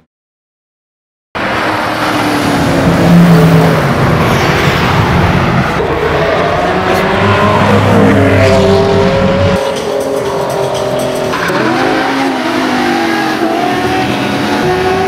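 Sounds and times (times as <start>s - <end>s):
car engines revving: 1.4s - 15.0s.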